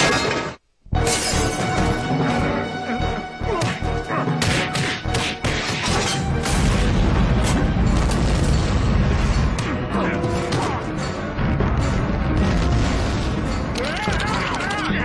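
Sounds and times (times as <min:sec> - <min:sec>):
cartoon action music: 0:01.0 - 0:15.0.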